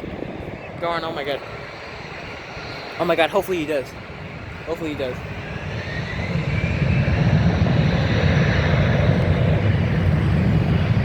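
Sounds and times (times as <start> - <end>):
jet airliner engine noise: 0.0 - 11.0
wind rumble on microphone: 0.0 - 11.0.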